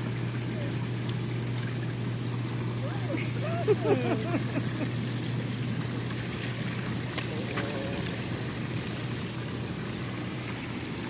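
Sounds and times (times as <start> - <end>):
pump hum: 0.0 - 11.0
water churning and bubbling: 0.0 - 11.0
waterfall spout pouring: 0.0 - 11.0.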